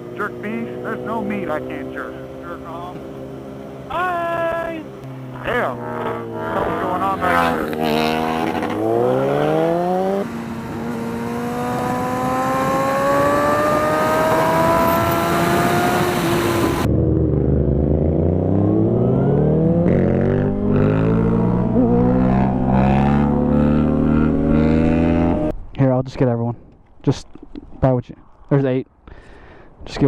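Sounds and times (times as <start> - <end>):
motorcycle engine accelerating: 0.0 - 25.6.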